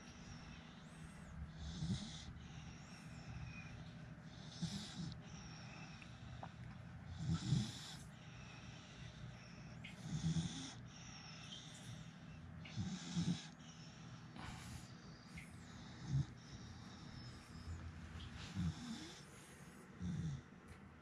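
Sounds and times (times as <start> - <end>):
dog snuffly breathing: 0.0 - 6.3, 7.0 - 20.5.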